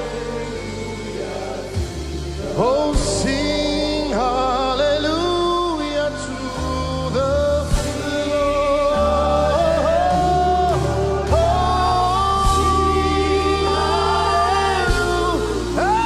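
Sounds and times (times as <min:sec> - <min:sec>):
band with sustained bass: 0:00.0 - 0:16.0
gospel voices singing: 0:00.0 - 0:16.0.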